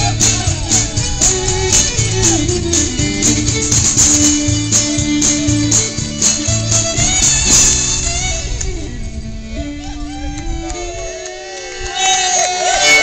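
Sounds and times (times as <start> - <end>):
strummed guitar: 0.0 - 11.0
fiddle playing lively tune: 0.0 - 13.0.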